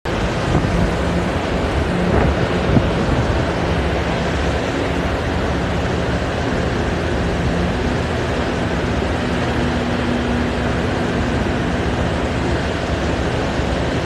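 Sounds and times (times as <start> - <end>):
low machinery hum: 0.1 - 14.0
wind buffeting microphone: 0.1 - 14.0.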